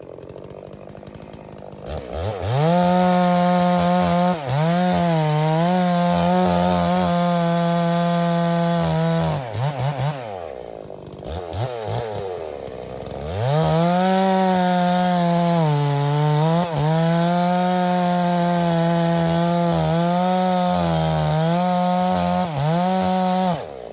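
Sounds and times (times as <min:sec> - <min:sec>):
chainsaw cutting wood: 0:00.0 - 0:23.9.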